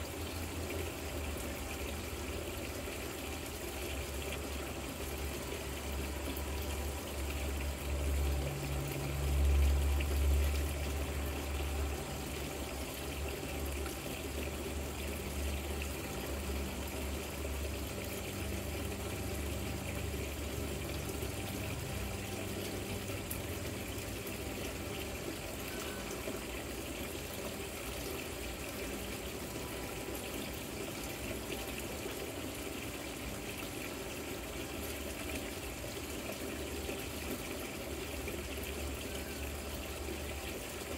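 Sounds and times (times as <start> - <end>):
fountain water trickling: 0.0 - 40.9.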